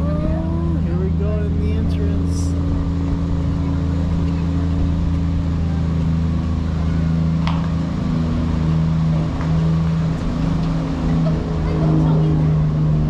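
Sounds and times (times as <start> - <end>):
engine running at low speed: 0.0 - 13.0.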